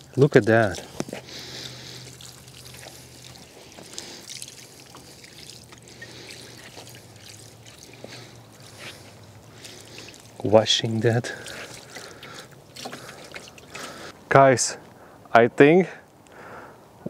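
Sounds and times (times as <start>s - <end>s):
water trickling onto wooden boards: 0.0s - 14.3s.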